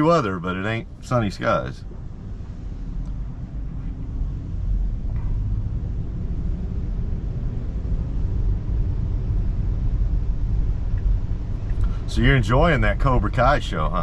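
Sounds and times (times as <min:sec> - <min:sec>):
road and tyre noise: 0:00.0 - 0:14.0.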